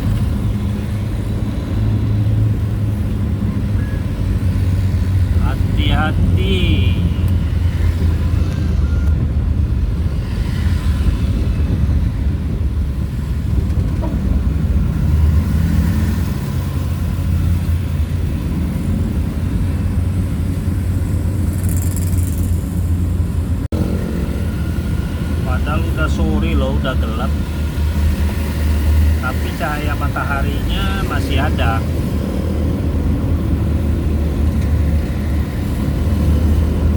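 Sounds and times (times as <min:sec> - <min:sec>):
vehicle road and wind noise: 0:00.0 - 0:36.9.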